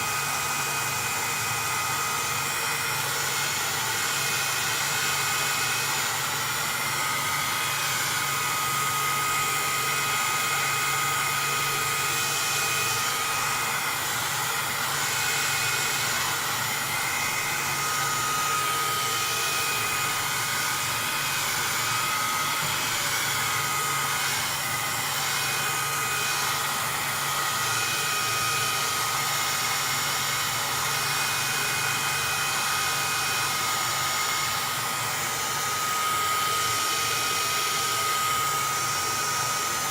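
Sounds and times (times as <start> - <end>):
heat gun blowing air: 0.0 - 39.9.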